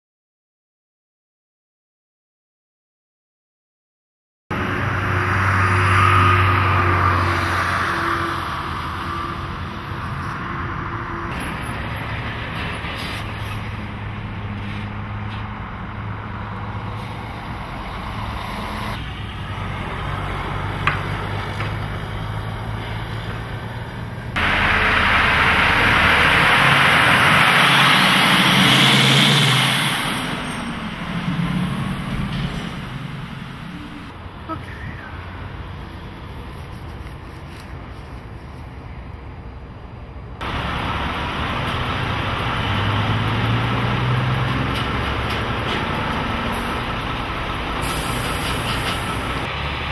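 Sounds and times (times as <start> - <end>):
truck engines humming: 4.5 - 49.9.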